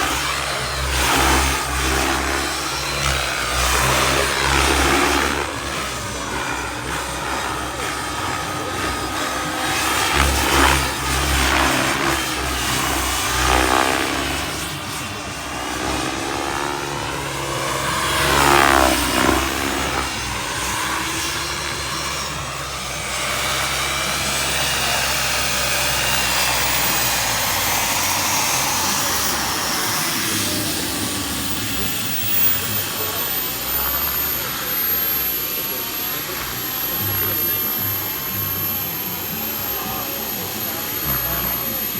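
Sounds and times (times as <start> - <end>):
rotor blades whooshing: 0.0 - 41.9
turbine whine: 0.0 - 41.9.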